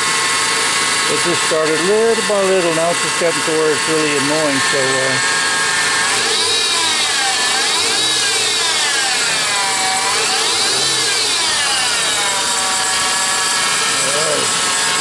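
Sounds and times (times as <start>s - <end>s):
idler pulley whine: 0.0s - 15.0s.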